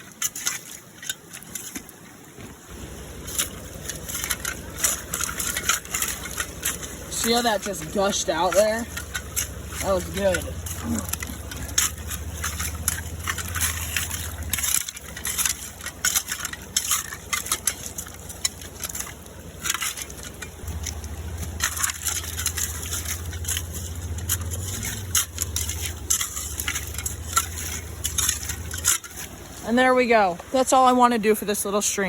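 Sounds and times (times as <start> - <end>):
wet leaves crunching and crackling: 0.0 - 30.9
low steady rumble: 0.0 - 32.0.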